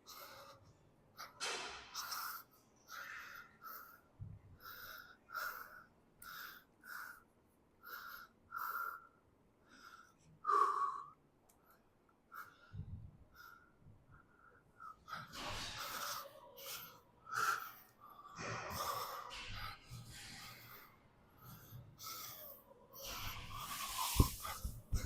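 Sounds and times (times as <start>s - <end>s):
person breathing heavily: 0.0s - 25.0s.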